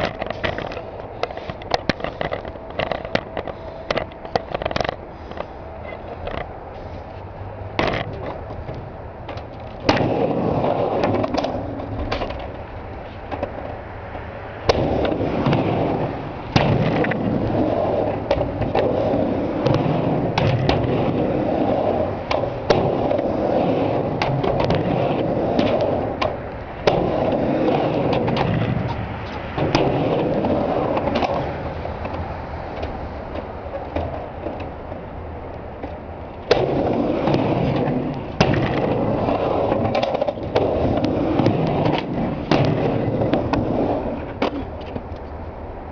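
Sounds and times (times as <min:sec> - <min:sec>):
skateboard trucks clacking on coping: 0:00.0 - 0:45.9
skateboard wheels rolling: 0:00.0 - 0:45.9.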